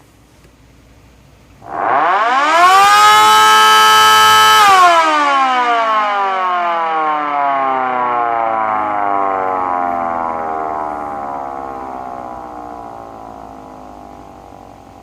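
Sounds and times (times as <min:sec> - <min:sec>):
air raid siren winding down: 0:01.6 - 0:15.0.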